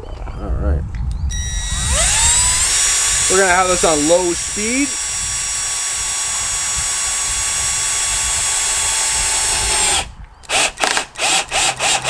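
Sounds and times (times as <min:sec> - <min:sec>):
cordless drill driving screws: 0:01.3 - 0:12.0
drill trigger blips: 0:01.3 - 0:12.0.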